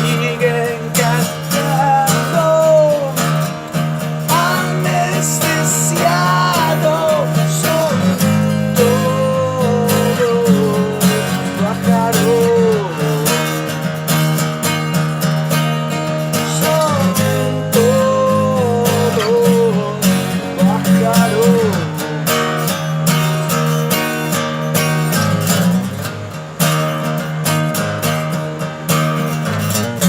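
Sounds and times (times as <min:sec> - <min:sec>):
strummed acoustic guitar: 0:00.0 - 0:30.0.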